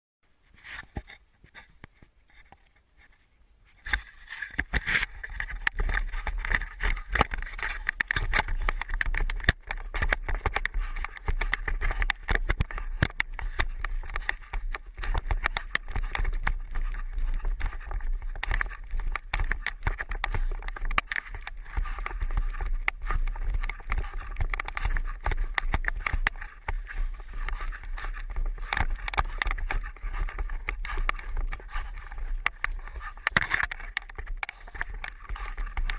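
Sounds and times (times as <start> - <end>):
stick crackling knocks and scrapes: 0.5 - 35.9
camera handling rumble: 3.8 - 35.9.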